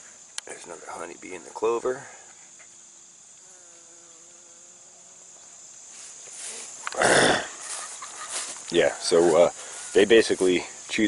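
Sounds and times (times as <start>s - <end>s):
crickets and insects chirring: 0.0s - 11.0s.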